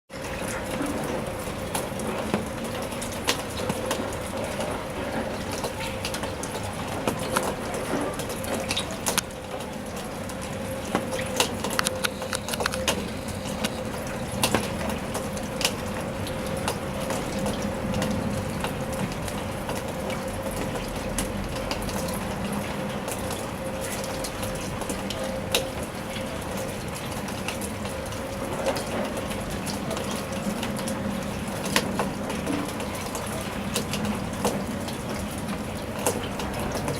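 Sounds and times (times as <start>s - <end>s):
raindrops striking close by: 0.1s - 36.9s
steady rain: 0.1s - 36.9s.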